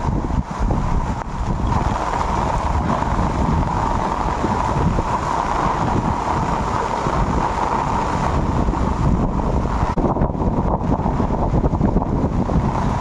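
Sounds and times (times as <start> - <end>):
heavy rain on standing water: 0.0 - 13.0
wind noise on microphone: 0.0 - 13.0.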